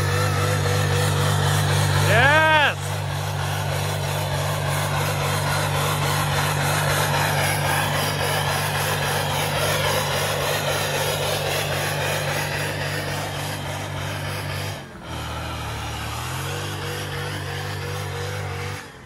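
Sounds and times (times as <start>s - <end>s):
engine at high revs: 0.0s - 19.0s
tyres spinning in snow: 0.0s - 19.0s.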